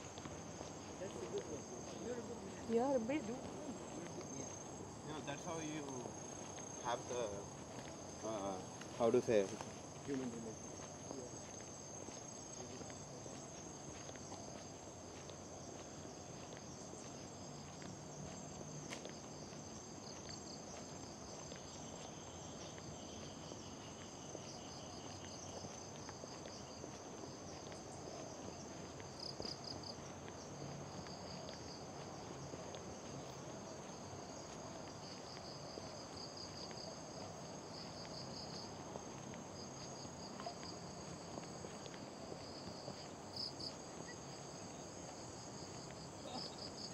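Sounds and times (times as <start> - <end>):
insects buzzing: 0.0 - 46.9
low steady hiss: 0.0 - 46.9.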